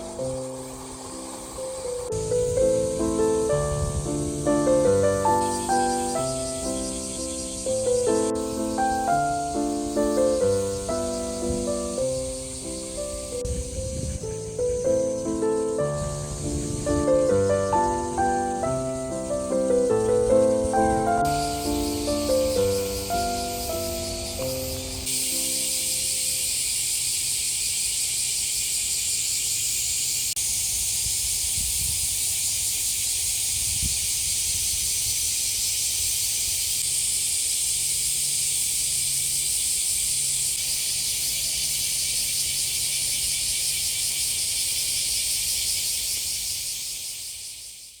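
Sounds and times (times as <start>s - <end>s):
cicadas shrilling: 0.0s - 48.0s.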